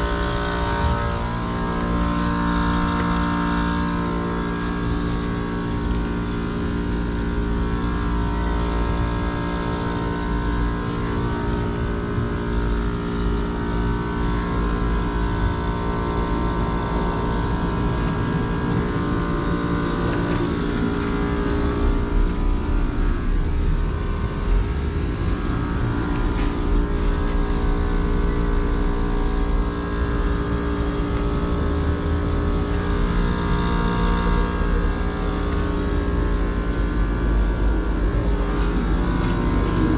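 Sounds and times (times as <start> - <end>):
heat pump unit humming: 0.0 - 39.9.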